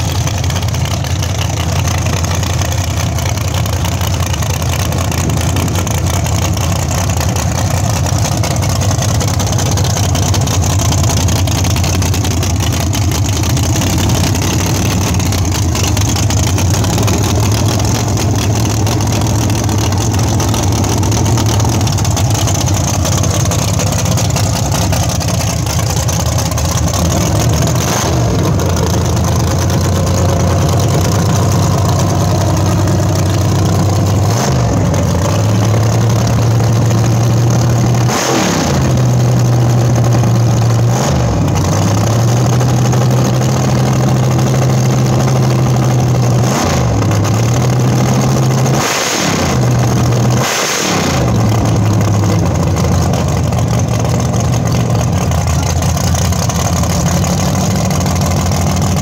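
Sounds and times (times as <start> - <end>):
race car engine idling and revving: 0.0 - 59.0.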